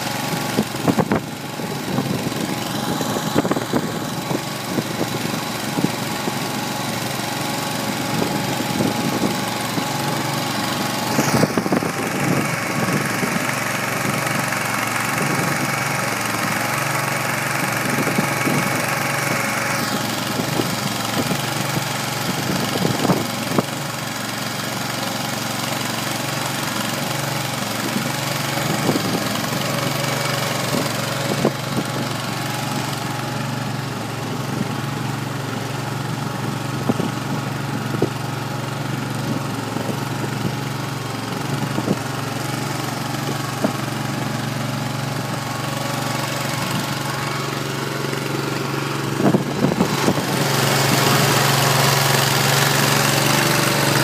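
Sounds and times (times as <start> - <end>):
feed mixer tumbling hay: 0.0 - 54.0
gas engine running: 0.0 - 54.0.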